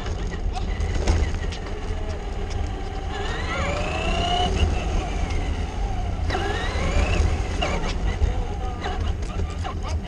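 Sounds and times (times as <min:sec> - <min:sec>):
low rumble of wind: 0:00.0 - 0:10.0
rc car motor whining: 0:00.8 - 0:09.0.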